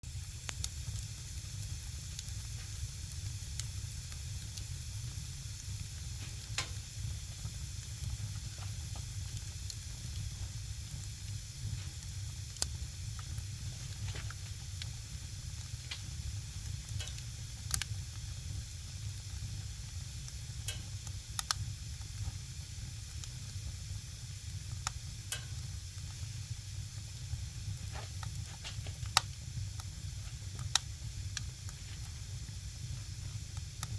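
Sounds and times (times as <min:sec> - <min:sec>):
firewood burning and crackling: 0:00.0 - 0:33.9.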